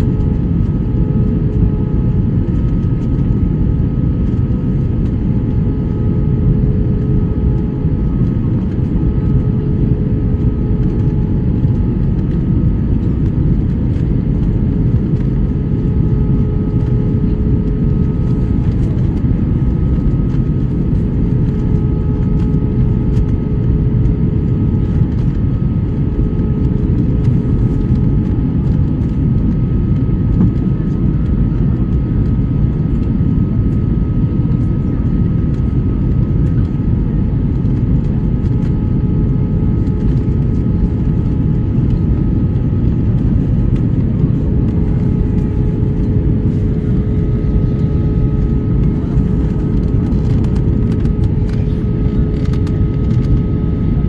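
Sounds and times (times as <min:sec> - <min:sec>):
airliner engines rumbling: 0:00.0 - 0:54.0
steady hum tones: 0:00.0 - 0:54.0.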